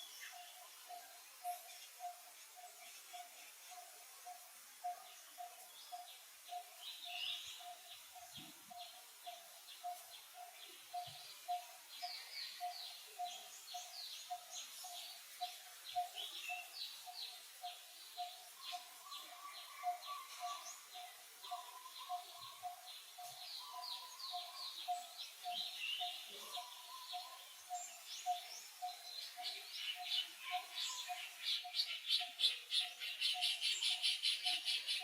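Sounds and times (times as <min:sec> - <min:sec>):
birds chirping: 0:04.9 - 0:35.0.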